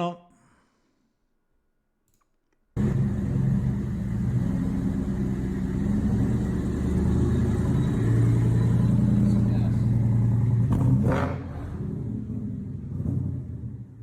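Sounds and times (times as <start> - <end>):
car engine rumbling: 2.8 - 14.0.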